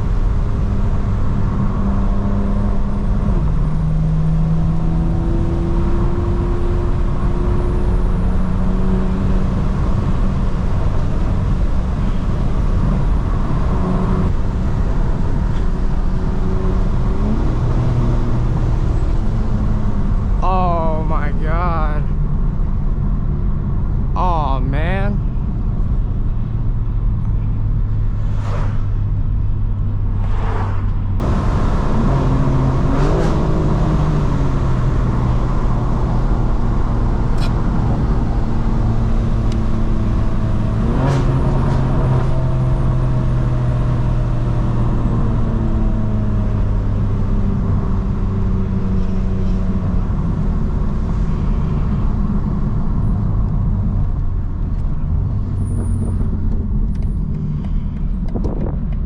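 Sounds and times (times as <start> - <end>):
car engine and exhaust drone: 0.0 - 59.0.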